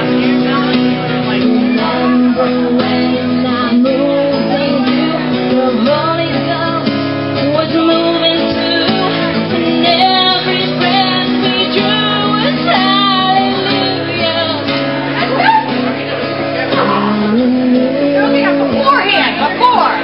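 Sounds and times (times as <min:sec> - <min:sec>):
woman singing: 0:00.0 - 0:15.8, 0:16.7 - 0:20.0
acoustic guitar strumming: 0:00.0 - 0:20.0.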